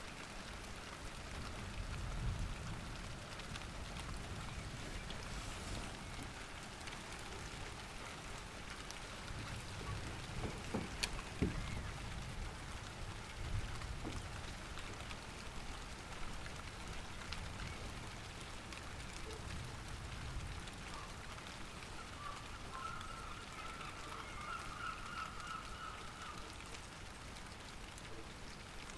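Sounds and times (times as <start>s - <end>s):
light rain falling: 0.0s - 28.9s.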